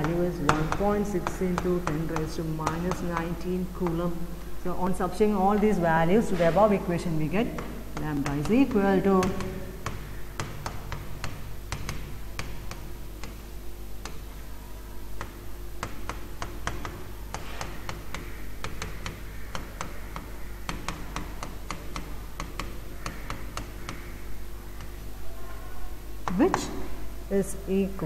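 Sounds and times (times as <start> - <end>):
stylus tapping on pen tablet: 0.0 - 13.4, 14.0 - 14.4, 15.2 - 25.0
steady low hum: 0.0 - 28.0.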